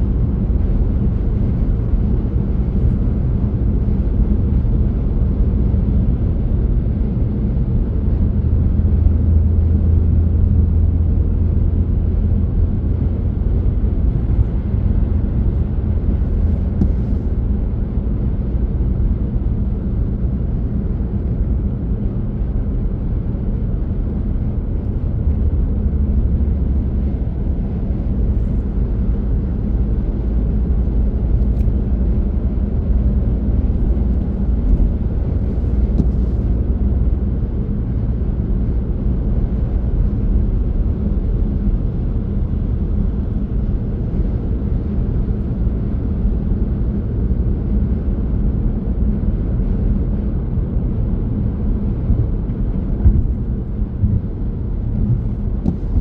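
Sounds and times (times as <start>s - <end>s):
car engine rumble: 0.0s - 56.0s
tyre road noise: 0.0s - 56.0s.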